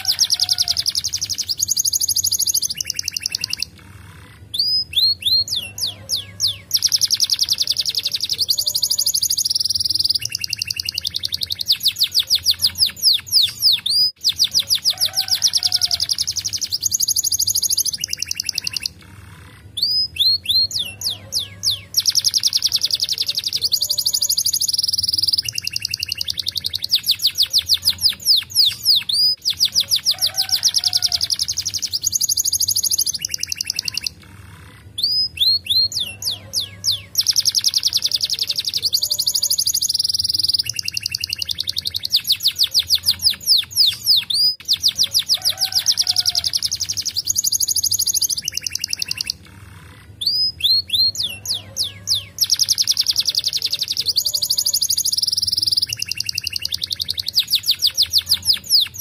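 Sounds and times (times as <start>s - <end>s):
canary singing rapid trills: 0.0s - 59.0s.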